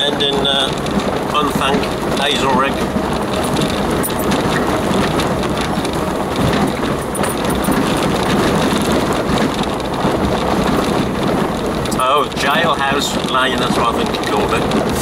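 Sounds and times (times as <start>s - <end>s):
engine and tyres rumbling: 0.0s - 15.0s
knocks and rattles from rough ground: 0.0s - 15.0s.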